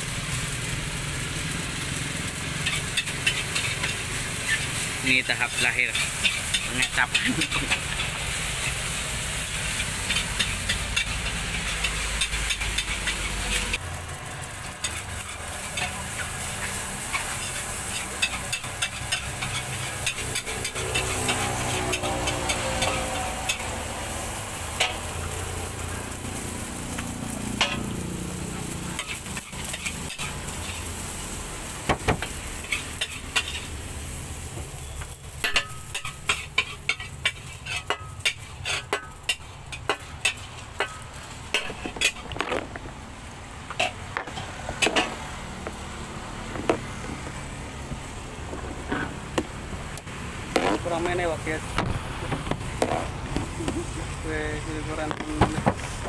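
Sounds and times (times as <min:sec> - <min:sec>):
rice sizzling in wok: 0:00.0 - 0:56.0
metal spatula scraping wok: 0:01.4 - 0:13.8, 0:14.4 - 0:42.8, 0:43.7 - 0:45.6, 0:48.1 - 0:49.4, 0:50.2 - 0:54.0.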